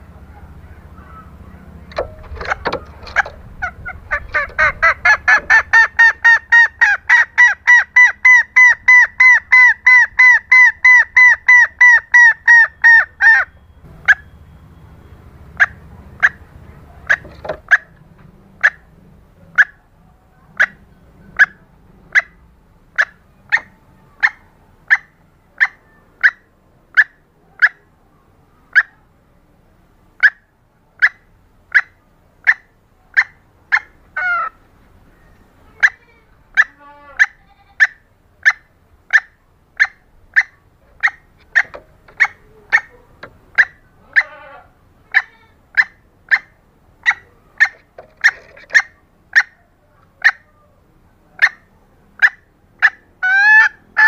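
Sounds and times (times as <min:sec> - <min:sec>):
hen clucking calls: 0:00.0 - 0:27.9, 0:28.6 - 0:29.1, 0:30.2 - 0:54.0.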